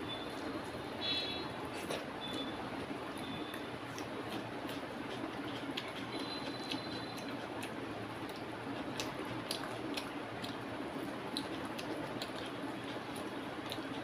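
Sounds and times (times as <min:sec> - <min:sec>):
steady background hum: 0:00.0 - 0:14.0
chewing: 0:01.7 - 0:14.0
fingers mixing food on a plate: 0:01.7 - 0:14.0.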